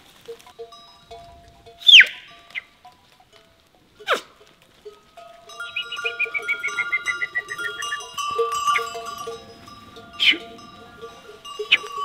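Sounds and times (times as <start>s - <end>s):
goat bells clinking: 0.0s - 12.0s.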